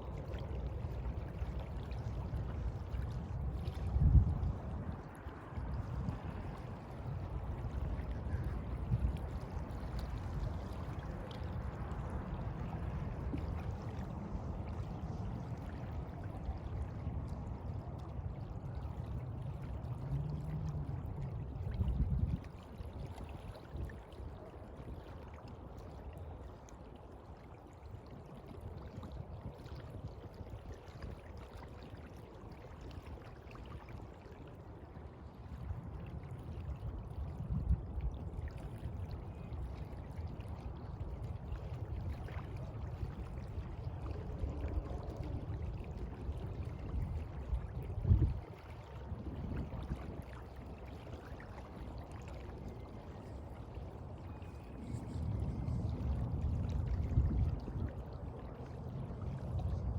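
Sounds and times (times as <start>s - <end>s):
sea water sloshing: 0.0s - 59.9s.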